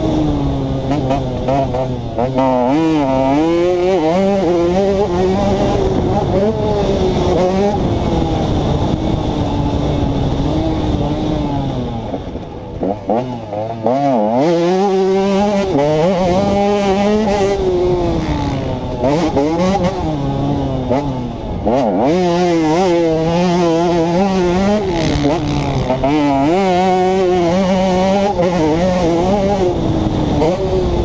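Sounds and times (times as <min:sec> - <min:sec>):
two-stroke motorcycle engine revving: 0:00.0 - 0:31.0.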